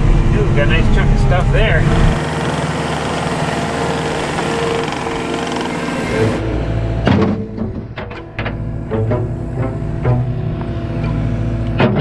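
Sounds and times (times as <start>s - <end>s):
thin whine: 0.0s - 12.0s
track loader engine running: 0.0s - 12.0s.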